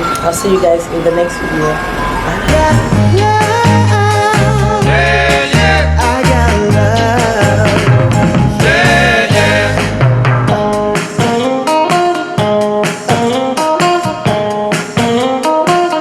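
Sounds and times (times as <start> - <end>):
guitar music with steady beat: 2.5 - 16.0.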